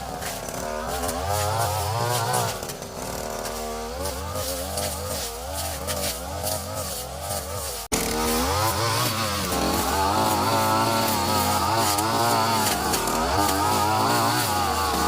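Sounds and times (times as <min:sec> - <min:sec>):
brushcutter engine cutting grass: 0:00.0 - 0:15.0.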